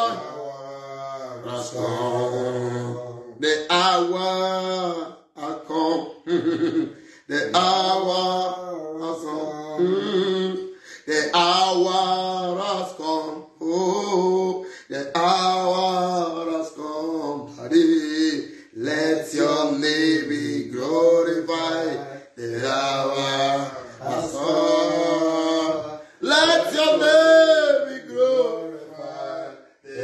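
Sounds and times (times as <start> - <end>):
man singing worship song: 0.0 - 30.0.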